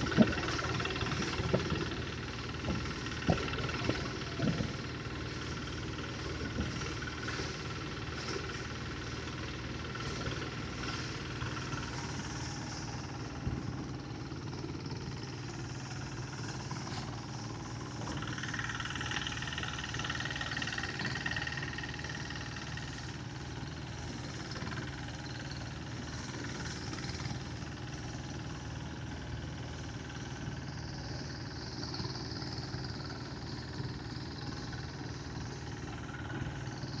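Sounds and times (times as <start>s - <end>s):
threshing blower engine drone: 0.0s - 37.0s.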